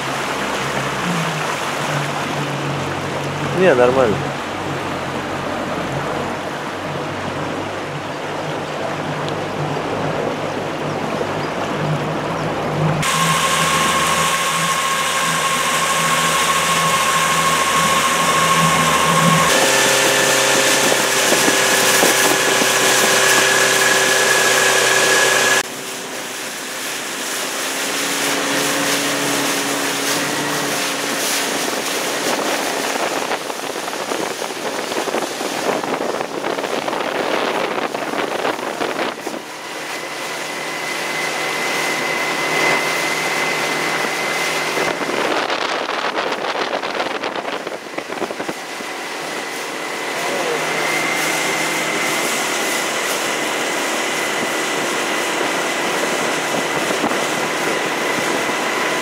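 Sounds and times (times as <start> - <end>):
outboard motor running with whine: 0.0 - 59.0
rushing water: 0.0 - 59.0
wind: 0.0 - 59.0.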